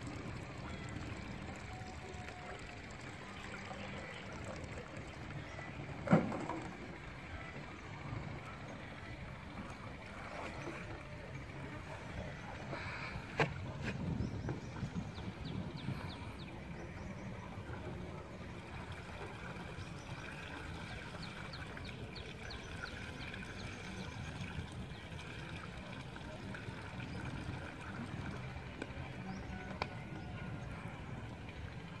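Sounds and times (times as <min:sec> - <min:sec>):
water sloshing and trickling: 0:00.0 - 0:32.0.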